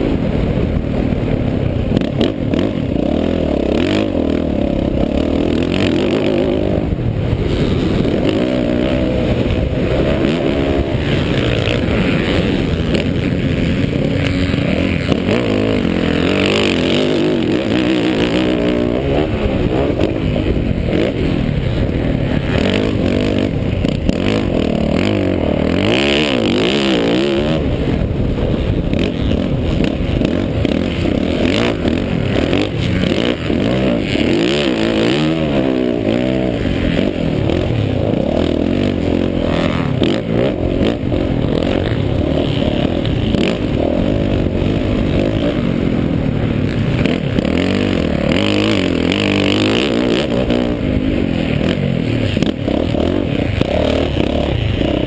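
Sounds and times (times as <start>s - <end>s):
motorbike engine revving: 0.0s - 55.0s
wind rushing over microphone: 0.0s - 55.0s.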